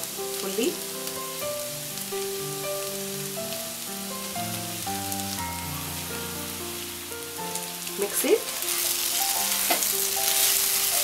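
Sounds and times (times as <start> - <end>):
background music of held notes: 0.0 - 11.0
vegetables sizzling in oil: 0.0 - 11.0.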